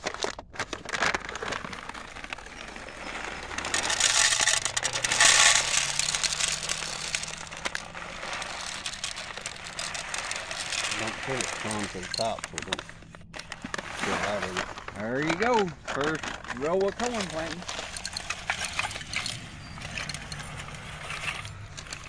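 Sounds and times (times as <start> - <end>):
paper bag rustling: 0.0 - 22.0
seed kernels pouring into plastic hopper: 1.1 - 12.8, 13.7 - 22.0.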